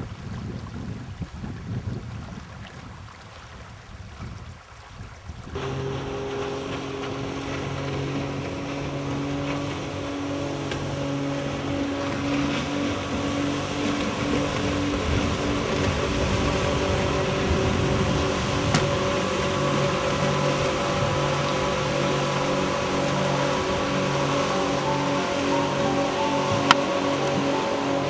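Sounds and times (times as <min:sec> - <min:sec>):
wind buffeting microphone: 0:00.0 - 0:28.0
engine hum: 0:05.5 - 0:28.0.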